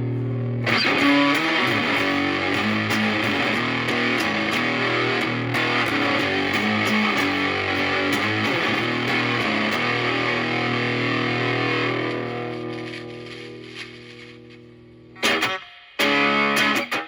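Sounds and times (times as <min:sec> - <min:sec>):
fuzzed electric guitar: 0:00.0 - 0:17.0.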